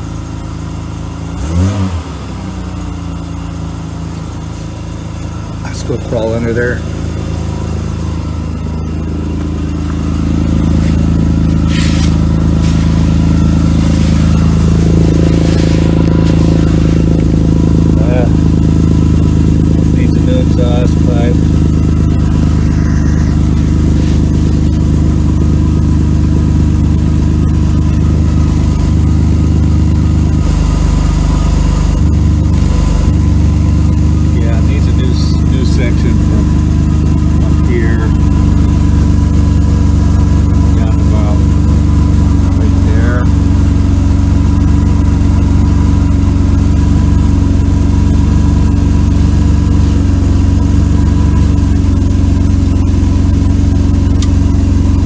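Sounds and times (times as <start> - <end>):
car engine idling with exhaust leak: 0.0 - 55.0.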